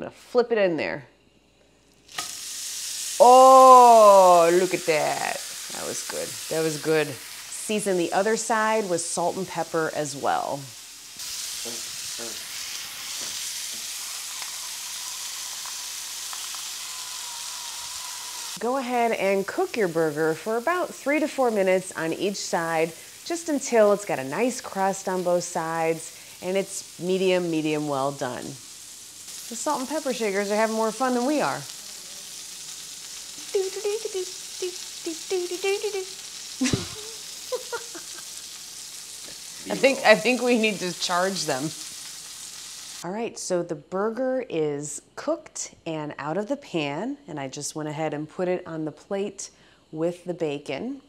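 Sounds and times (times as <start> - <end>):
burger patty sizzling in skillet: 1.3 - 43.1.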